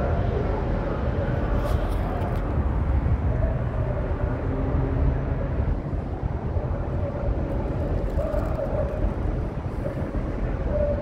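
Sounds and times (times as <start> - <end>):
low open-air rumble: 0.0 - 11.0.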